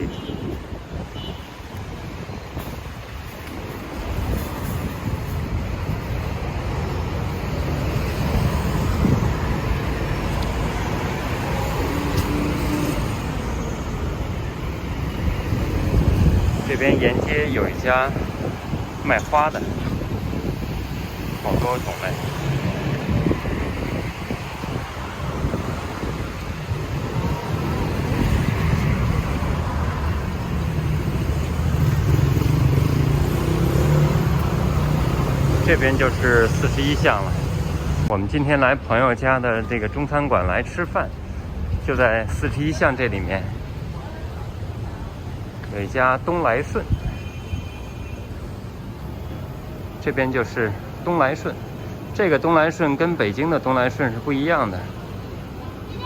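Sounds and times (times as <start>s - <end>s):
passing cars rumbling: 0.0s - 39.0s, 40.2s - 56.0s.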